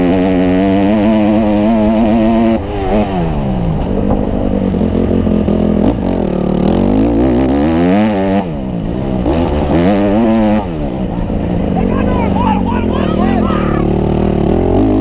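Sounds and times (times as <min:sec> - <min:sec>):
motorbike engine revving: 0:00.0 - 0:15.0.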